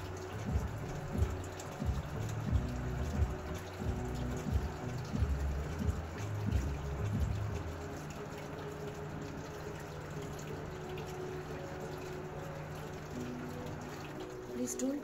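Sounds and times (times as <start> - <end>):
music with held notes: 0.0 - 15.0.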